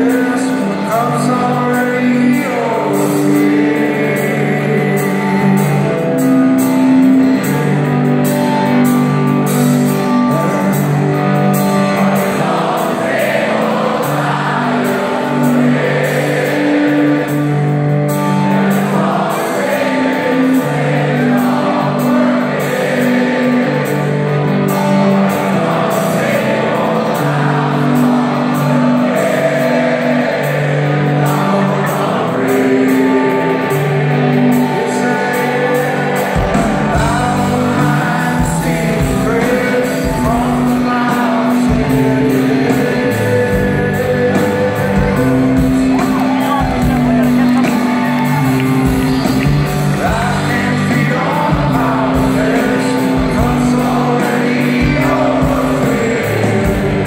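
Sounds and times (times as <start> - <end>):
live rock band in echoing hall: 0.0 - 57.0.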